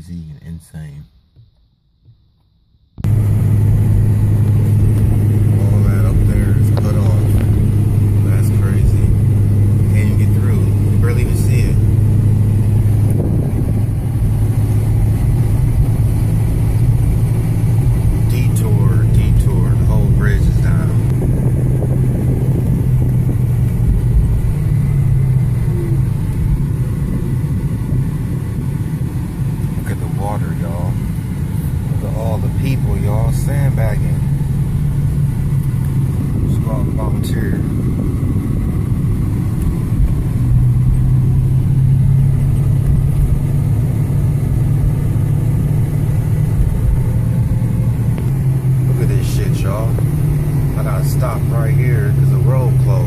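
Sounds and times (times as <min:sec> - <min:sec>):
car engine and road hum: 0:00.0 - 0:53.0.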